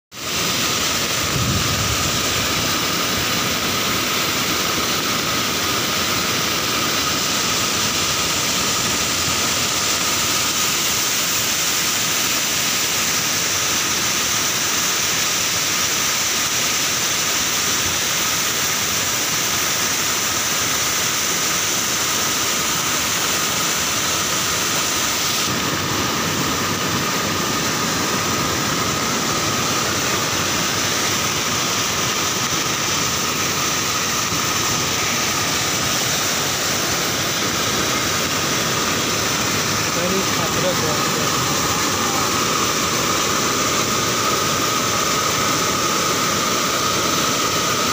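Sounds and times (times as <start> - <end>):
river rushing over weir: 0.2 - 18.0, 21.0 - 47.9.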